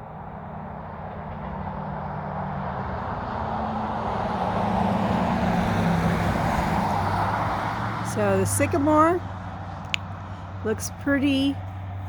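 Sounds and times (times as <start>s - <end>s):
vehicle engine drone: 0.0s - 12.0s.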